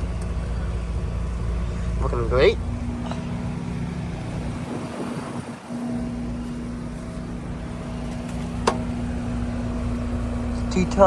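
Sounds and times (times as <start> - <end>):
heat pump humming: 0.0 - 11.0.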